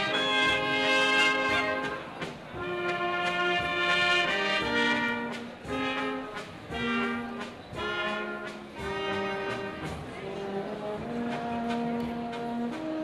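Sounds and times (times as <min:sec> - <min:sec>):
brass band playing dance tune: 0:00.0 - 0:13.0.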